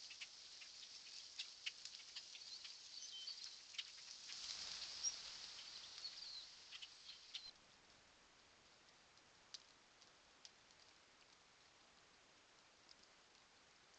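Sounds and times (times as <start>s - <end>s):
light ticks and patter: 0.0s - 13.9s
soft rustling noise: 0.0s - 13.9s.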